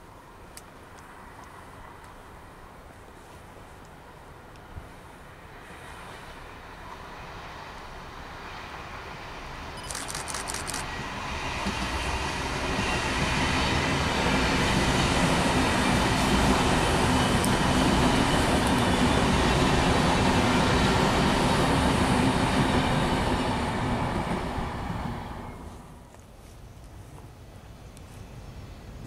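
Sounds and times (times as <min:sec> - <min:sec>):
train passing at speed: 0:01.0 - 0:03.4, 0:04.0 - 0:26.1, 0:27.3 - 0:29.0.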